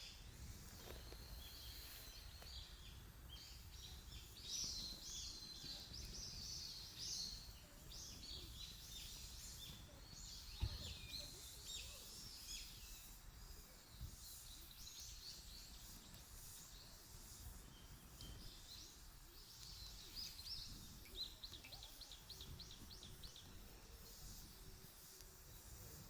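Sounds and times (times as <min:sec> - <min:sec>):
songbird chirps and calls: 0:00.0 - 0:25.8.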